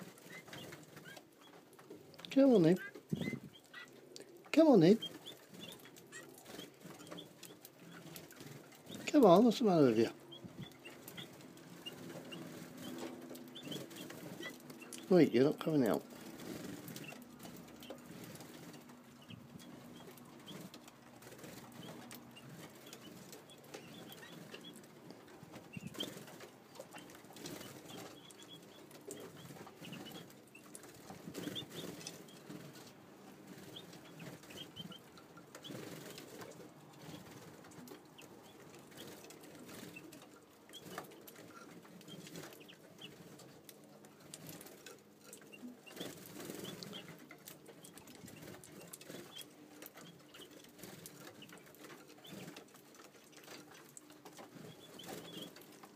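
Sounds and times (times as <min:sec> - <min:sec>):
soft bird calls: 0:00.0 - 0:32.9, 0:33.5 - 0:55.9
birds fluttering: 0:00.0 - 0:55.9.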